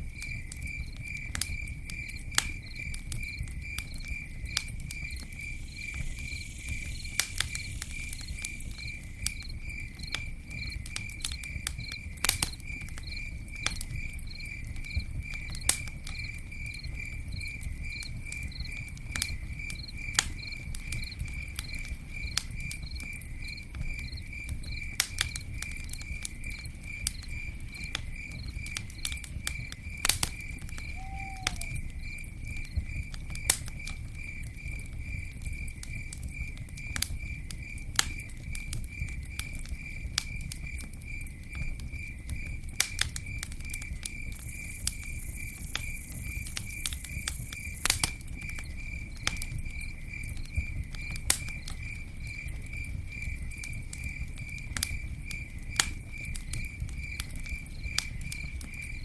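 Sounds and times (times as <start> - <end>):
campfire crackling and popping: 0.0 - 59.0
cricket chirping: 0.0 - 59.0
low fire rumble: 0.0 - 59.0.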